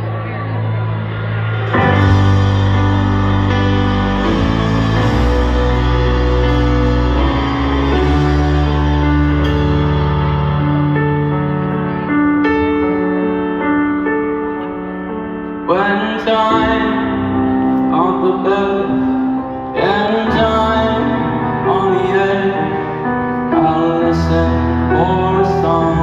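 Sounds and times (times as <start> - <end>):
sustained keyboard chords: 0.0 - 26.0.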